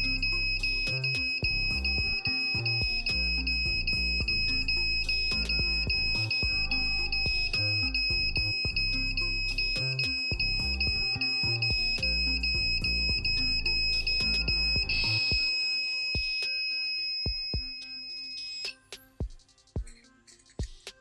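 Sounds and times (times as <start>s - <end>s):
smoke alarm shrill beeping: 0.0s - 18.9s
background music with a beat: 0.0s - 21.0s.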